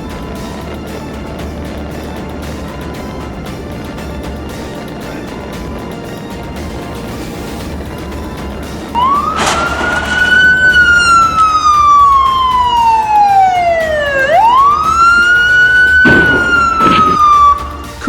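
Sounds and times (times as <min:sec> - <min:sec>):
police siren wailing: 0:00.0 - 0:18.0.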